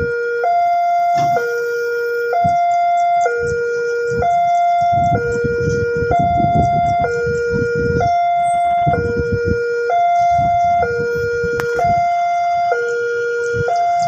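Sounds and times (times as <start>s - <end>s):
level crossing two-tone alarm: 0.0s - 14.0s
low rumbling: 0.0s - 14.0s.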